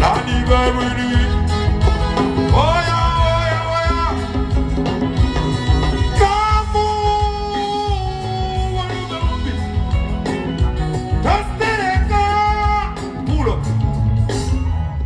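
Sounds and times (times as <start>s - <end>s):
bass and drum beat: 0.0s - 15.0s
melodic lead instrument: 0.0s - 15.0s.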